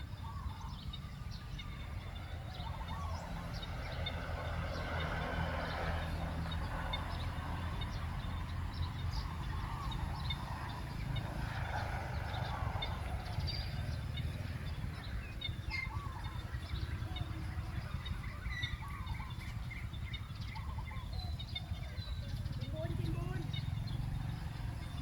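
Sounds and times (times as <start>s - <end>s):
bird chirps: 0.0s - 25.0s.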